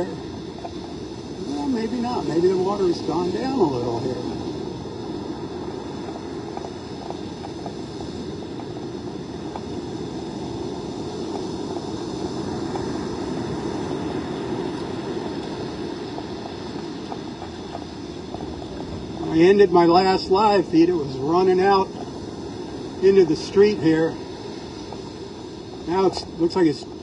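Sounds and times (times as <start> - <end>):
surf: 0.0 - 27.0
wind on microphone: 0.0 - 27.0.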